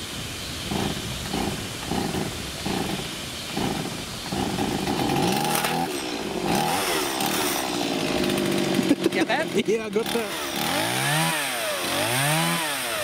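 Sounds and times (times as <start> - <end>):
chainsaw engine revving: 0.7 - 13.0
chainsaw starter cord pulls: 0.7 - 13.0.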